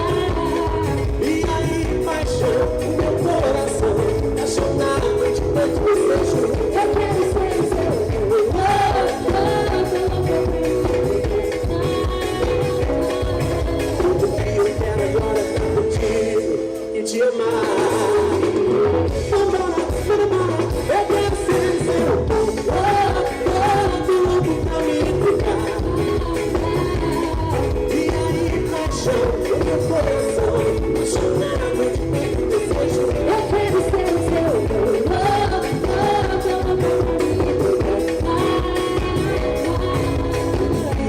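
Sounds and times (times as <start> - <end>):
loud music with singing: 0.0 - 41.0.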